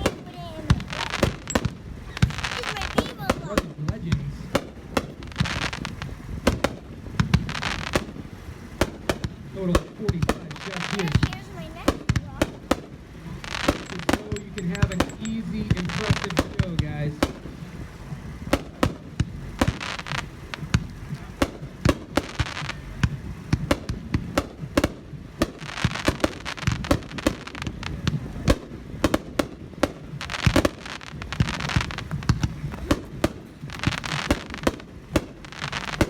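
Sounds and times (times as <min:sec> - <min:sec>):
fireworks firing bangs: 0:00.0 - 0:36.0.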